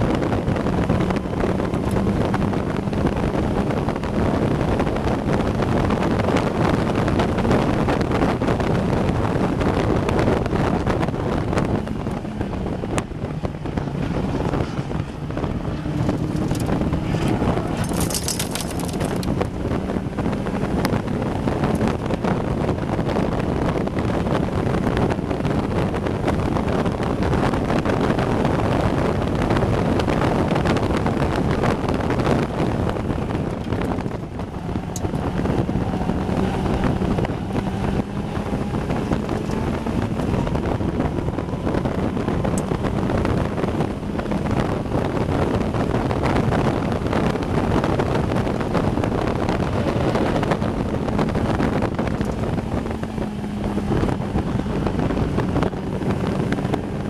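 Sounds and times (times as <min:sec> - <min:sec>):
race car engine running hard: 0:00.0 - 0:57.0
wind noise on microphone: 0:00.0 - 0:57.0.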